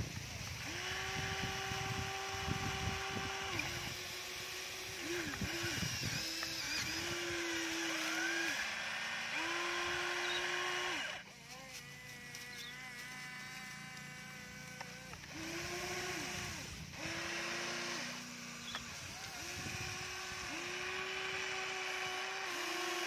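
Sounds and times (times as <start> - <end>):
higher quiet whine: 0.0 - 22.6
small electric motors whining: 0.0 - 23.0.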